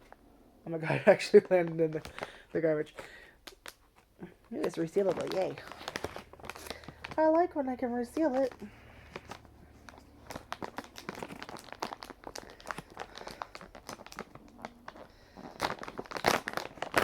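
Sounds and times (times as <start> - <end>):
plastic candy bag crinkling: 0.9 - 17.0.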